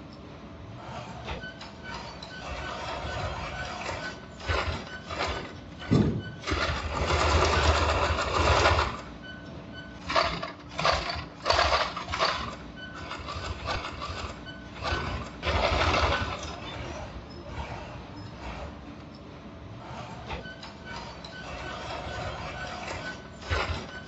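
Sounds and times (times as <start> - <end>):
workshop machinery running in bursts: 0.0 - 24.0.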